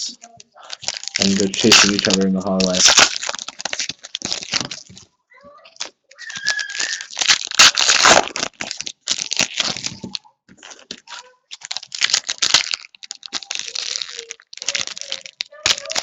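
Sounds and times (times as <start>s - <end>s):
foil wrappers tearing and crinkling: 0.0s - 5.1s, 5.7s - 16.0s.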